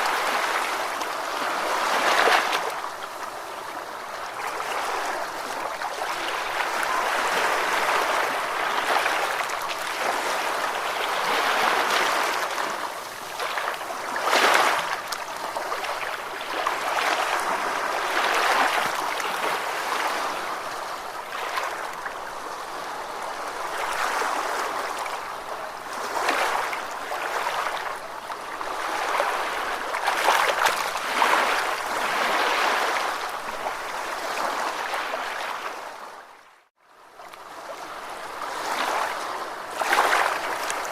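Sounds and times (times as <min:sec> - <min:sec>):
ocean waves breaking: 0:00.0 - 0:36.5, 0:37.5 - 0:40.9.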